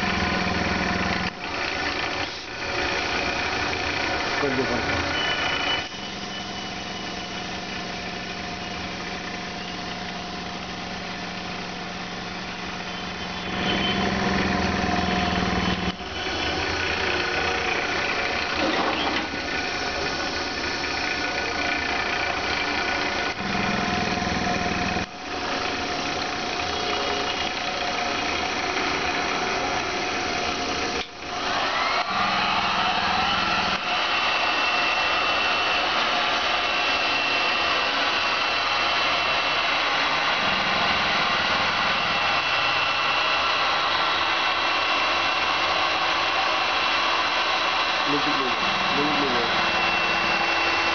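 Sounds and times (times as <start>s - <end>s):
electric motor humming: 0.0s - 50.9s.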